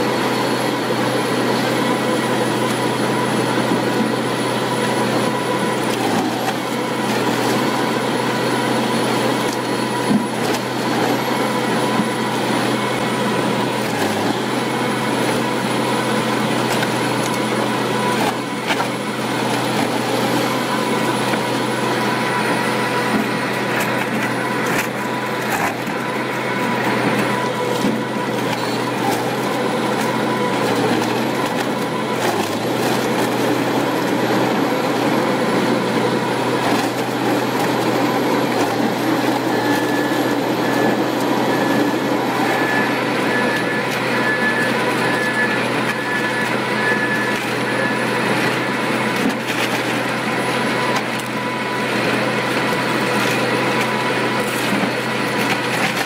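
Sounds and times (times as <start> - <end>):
wood shredder motor droning: 0.0 - 56.0.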